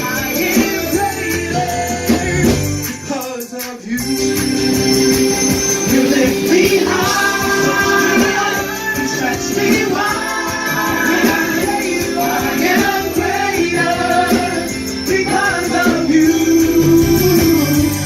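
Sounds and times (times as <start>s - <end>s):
jingling percussion: 0.0s - 18.0s
voices singing: 0.0s - 18.0s
worship band music: 0.0s - 18.0s.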